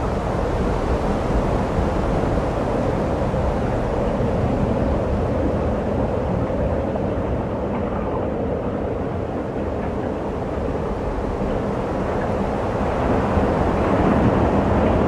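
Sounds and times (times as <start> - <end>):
plane engine and propeller noise: 0.0 - 15.0.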